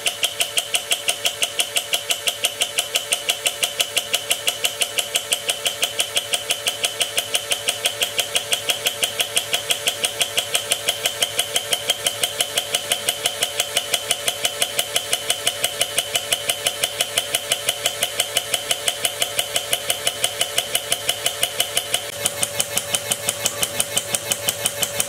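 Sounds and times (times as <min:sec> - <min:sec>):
electric motor turning engine: 0:03.8 - 0:25.0.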